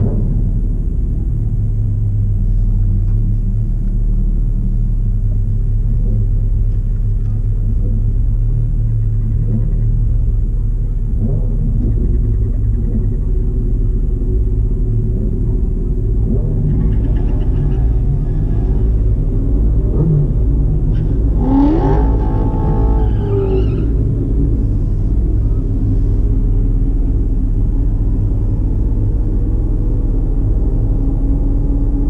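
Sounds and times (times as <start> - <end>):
car engines idling: 0.0 - 32.0.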